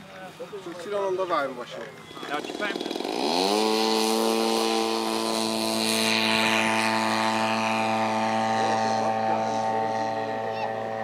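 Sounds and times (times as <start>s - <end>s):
model plane engine at full throttle: 2.0s - 11.0s.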